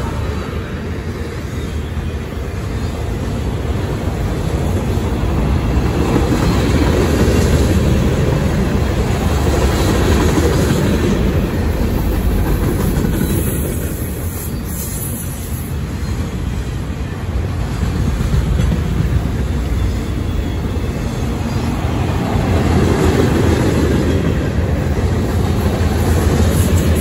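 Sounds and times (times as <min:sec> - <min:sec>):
freight train wheels rumbling on rails: 0:00.0 - 0:27.0.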